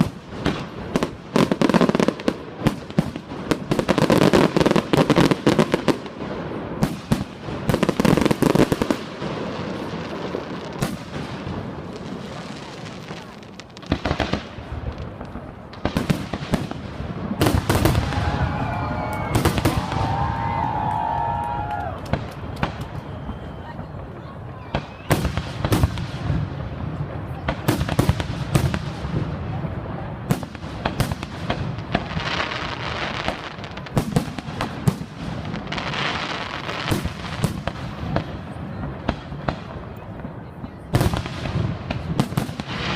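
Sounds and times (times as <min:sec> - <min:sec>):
fireworks bursting: 0:00.0 - 0:42.9.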